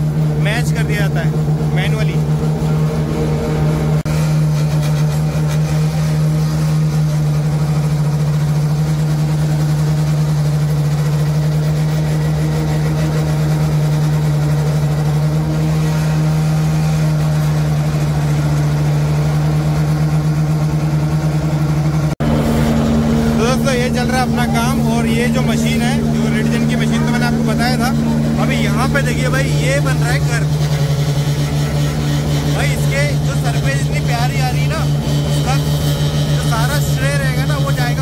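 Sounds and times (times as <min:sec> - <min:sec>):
paving machine vibrators humming: 0:00.0 - 0:38.0.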